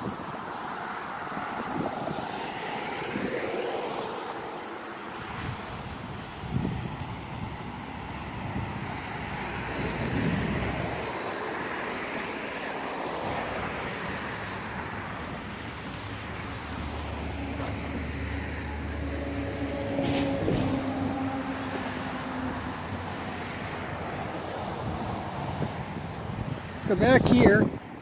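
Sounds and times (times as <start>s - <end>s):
distant traffic: 0.0s - 28.0s
passing vehicle engine hum: 0.0s - 28.0s.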